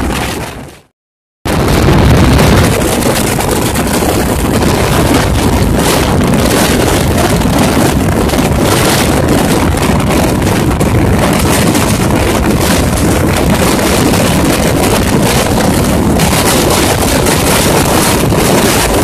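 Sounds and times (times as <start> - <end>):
wind rushing over microphone: 0.0 - 0.9, 1.5 - 19.0
fast train rumbling: 1.5 - 19.0.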